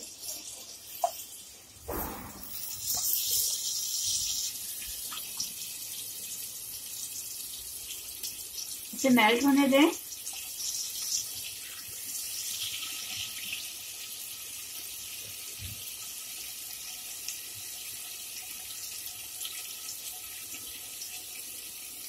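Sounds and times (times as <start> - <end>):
butter and oil sizzling: 0.0 - 22.0.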